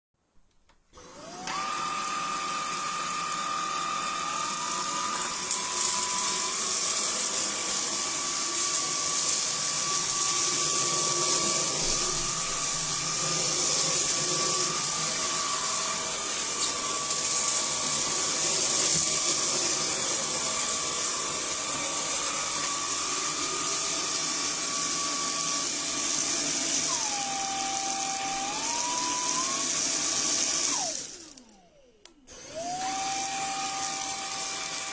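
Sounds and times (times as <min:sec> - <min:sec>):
stick vacuum running: 0:00.9 - 0:34.9.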